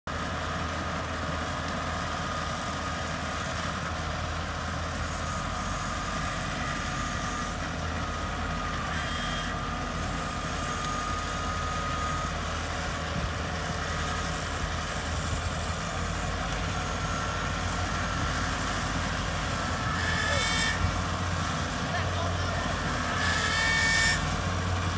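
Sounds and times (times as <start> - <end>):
diesel engine running: 0.1 - 24.9.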